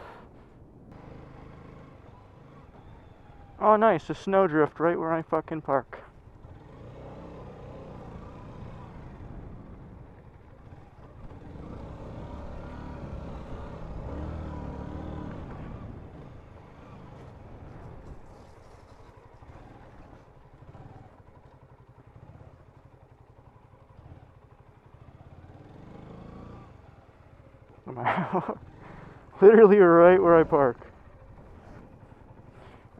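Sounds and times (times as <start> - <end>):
motorcycle engine running: 0.0 - 3.6, 4.6 - 32.9.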